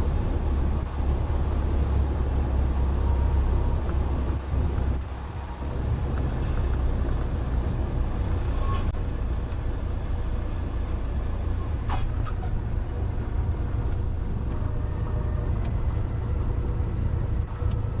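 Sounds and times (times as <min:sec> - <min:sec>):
light aircraft engine running: 0:00.0 - 0:18.0.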